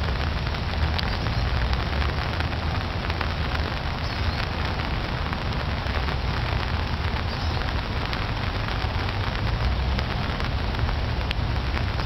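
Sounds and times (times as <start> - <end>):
rain hissing on water: 0.0 - 12.0
single raindrop ticks: 0.0 - 12.0.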